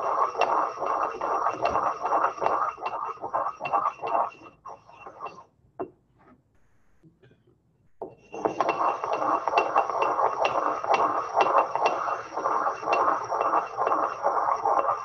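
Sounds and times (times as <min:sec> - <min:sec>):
pestle scraping in mortar: 0:00.0 - 0:05.5, 0:08.0 - 0:15.0.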